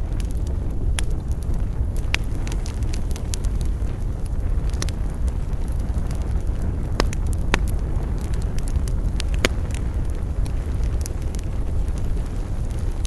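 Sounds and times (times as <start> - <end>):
fire snapping: 0.0 - 13.0
wood fire crackling: 0.0 - 13.0.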